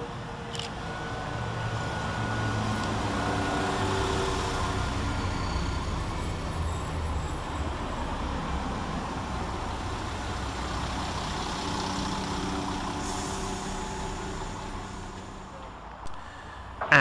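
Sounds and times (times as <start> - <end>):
train diesel engines humming: 0.0 - 17.0.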